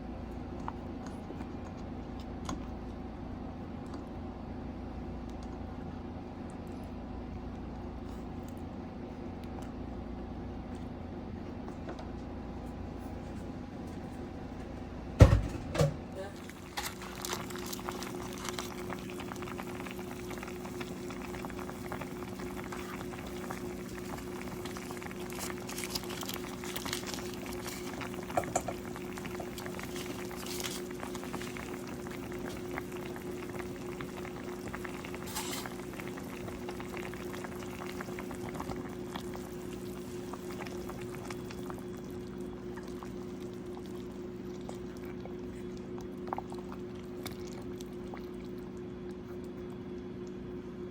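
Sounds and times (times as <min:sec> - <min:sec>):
soup boiling and bubbling: 0:00.0 - 0:12.5, 0:16.2 - 0:50.9
steady low hum: 0:00.0 - 0:50.9.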